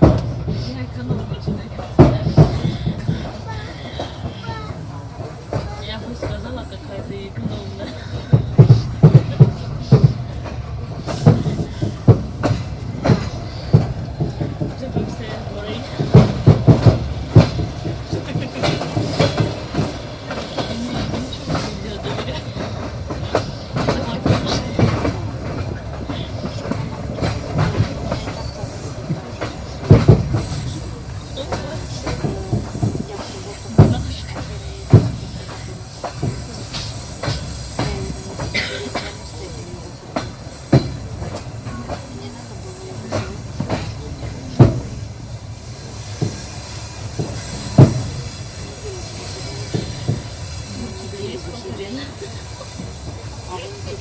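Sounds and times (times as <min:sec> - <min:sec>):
carriage wheels clattering over rail joints: 0:00.0 - 0:54.0
train rumbling on track: 0:00.0 - 0:54.0.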